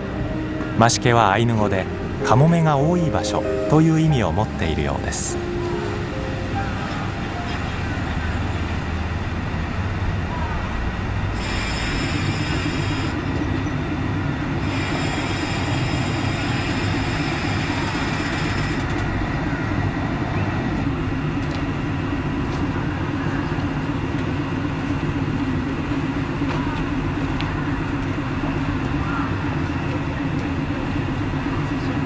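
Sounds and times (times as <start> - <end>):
diesel railcar engine drone: 0.0 - 32.0.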